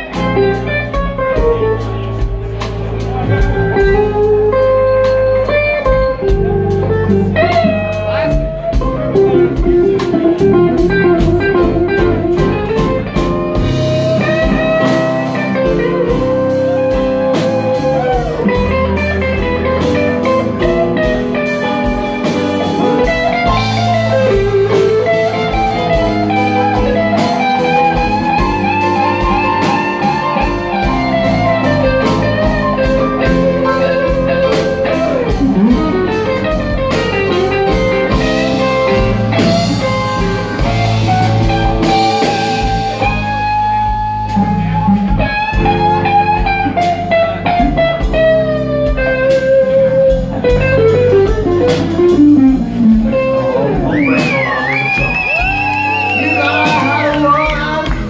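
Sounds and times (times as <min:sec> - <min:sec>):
drum kit: 0:00.0 - 0:58.0
electric bass: 0:00.0 - 0:58.0
electric guitar lead: 0:00.0 - 0:58.0.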